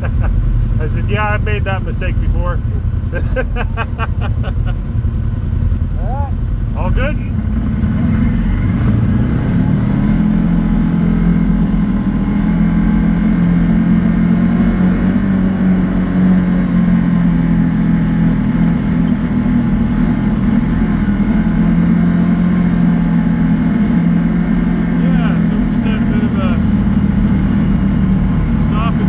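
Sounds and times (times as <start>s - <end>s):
engine droning at cruise: 0.0s - 29.0s.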